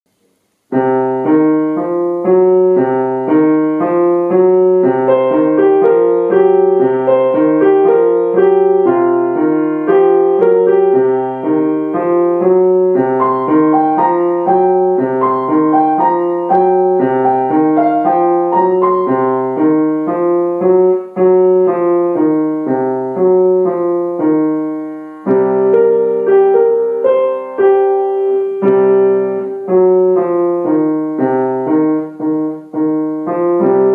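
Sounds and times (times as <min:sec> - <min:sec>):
solo grand piano piece: 0:00.1 - 0:33.9.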